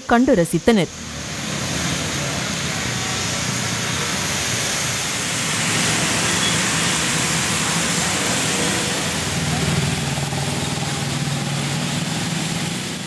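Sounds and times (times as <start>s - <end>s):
low engine hum: 0.0s - 13.0s
tyres hissing on wet road: 0.9s - 13.0s.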